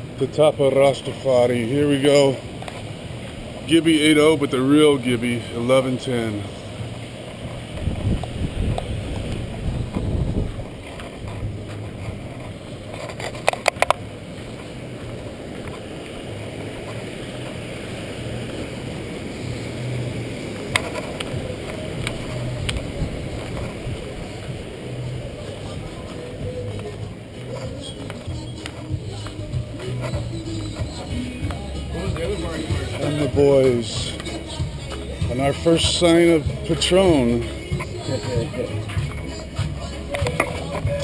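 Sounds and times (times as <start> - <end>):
wind buffeting microphone: 0.0 - 38.9
breaking surf: 0.0 - 41.0
wind: 0.0 - 41.0.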